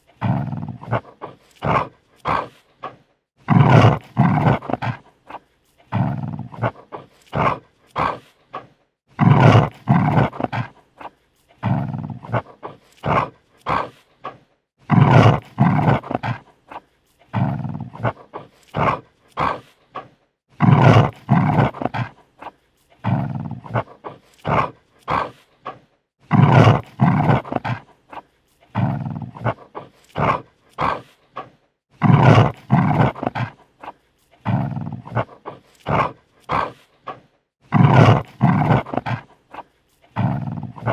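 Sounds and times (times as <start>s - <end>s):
dog snarling and growling: 0.0s - 40.9s.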